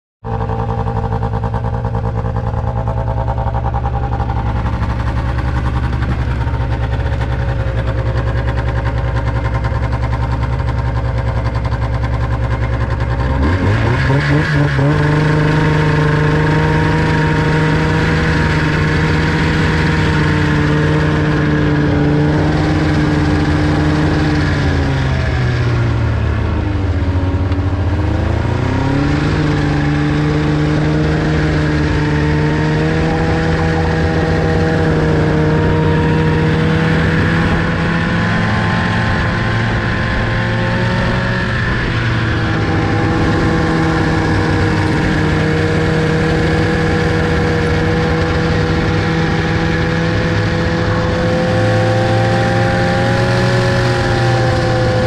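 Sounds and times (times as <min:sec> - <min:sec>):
snowmobile engine running: 0:00.2 - 0:55.0.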